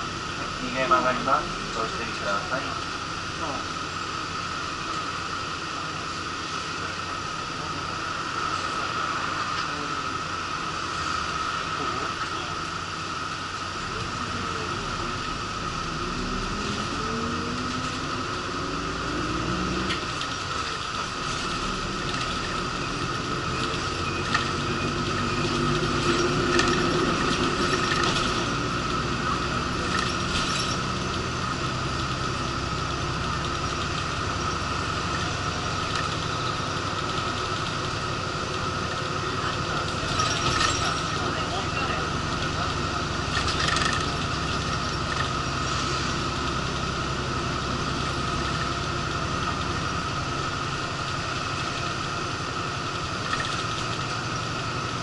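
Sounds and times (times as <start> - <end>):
bus engine under load: 0.0 - 55.0
high whine: 0.0 - 55.0.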